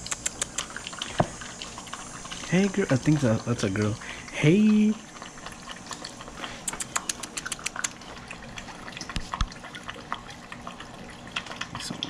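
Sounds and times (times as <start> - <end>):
puppies lapping water: 0.0 - 12.0.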